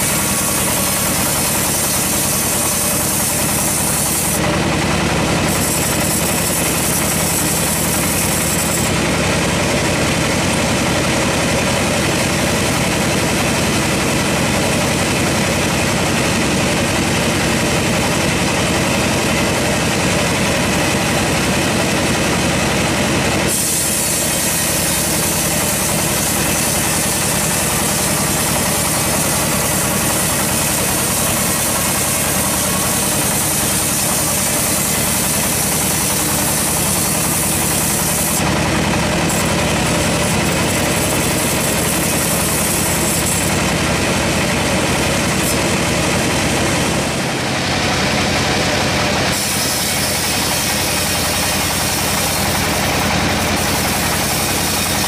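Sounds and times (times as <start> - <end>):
saw blade cutting log hiss: 0.0 - 55.0
sawmill machine drone: 0.0 - 55.0.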